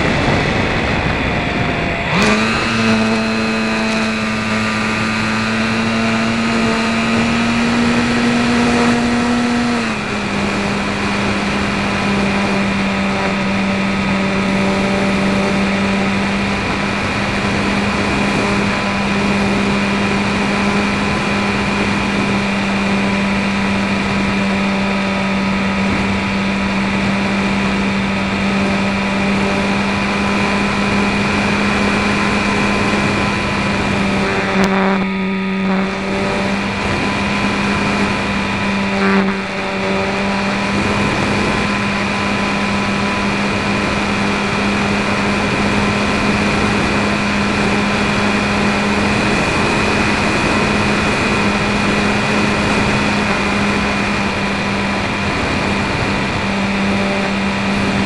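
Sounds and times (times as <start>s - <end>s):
constant low hum: 0.0s - 58.0s
model plane motor drone: 0.0s - 58.0s
rushing air: 0.0s - 58.0s.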